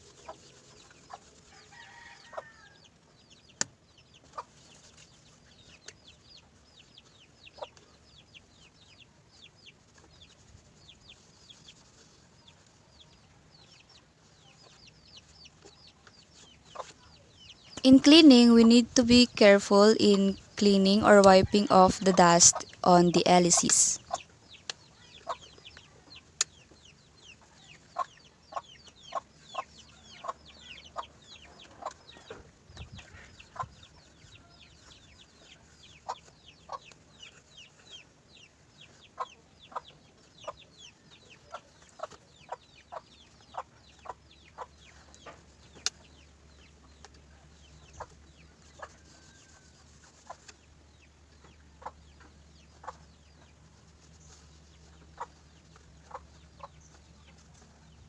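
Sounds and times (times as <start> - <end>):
faint bird chirps and clucks: 0.0 - 17.8, 24.0 - 58.0.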